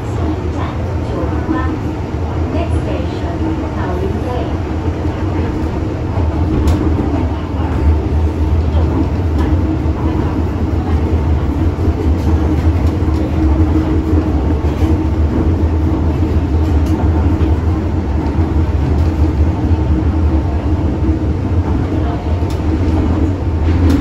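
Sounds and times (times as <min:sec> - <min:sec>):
train car rumble: 0:00.0 - 0:24.0.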